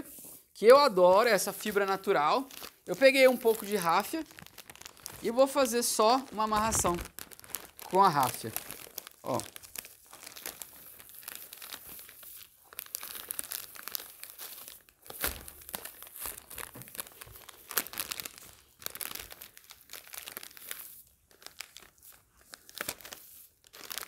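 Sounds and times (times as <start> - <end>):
plastic film crinkling: 0.0 - 24.0.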